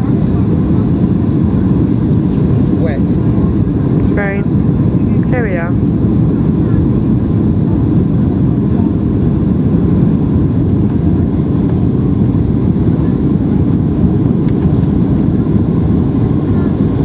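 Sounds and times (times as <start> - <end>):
jet engines and airflow in cabin: 0.0 - 17.0.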